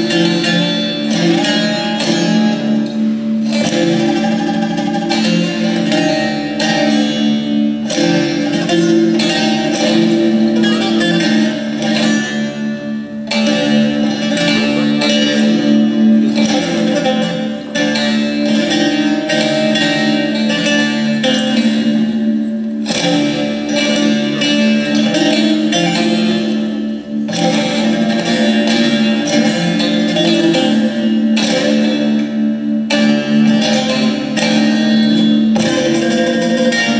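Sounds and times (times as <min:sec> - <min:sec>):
plucked lutes playing folk tune: 0:00.0 - 0:36.9.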